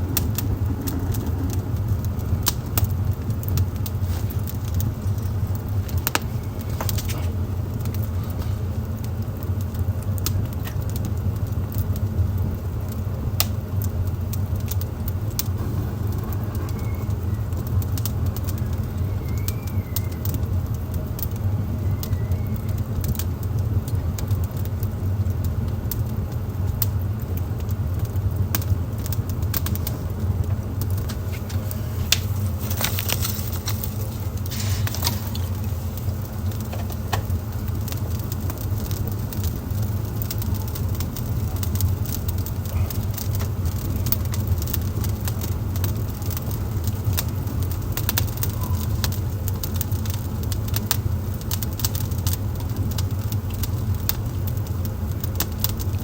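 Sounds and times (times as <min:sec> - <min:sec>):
fire flames rumbling: 0:00.0 - 0:56.0
wood fire crackling and popping: 0:00.0 - 0:56.0.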